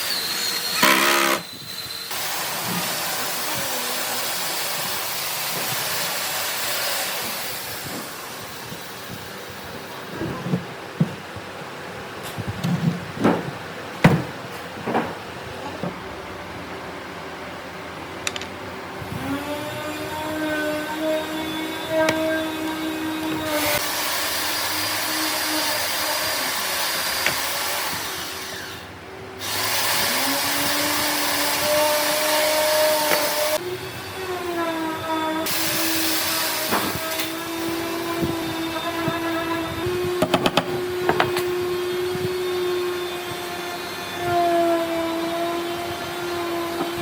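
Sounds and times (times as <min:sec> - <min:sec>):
power tool motor whining: 0:00.0 - 0:10.5, 0:19.0 - 0:47.0.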